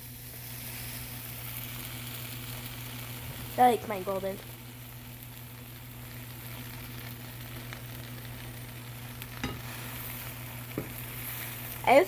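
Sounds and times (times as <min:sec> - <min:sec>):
butter sizzling in a pan: 0:00.0 - 0:12.0.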